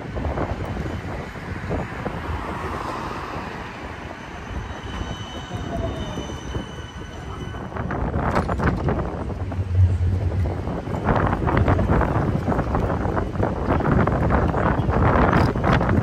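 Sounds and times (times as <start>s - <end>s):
tram rumble and hum: 0.0s - 16.0s.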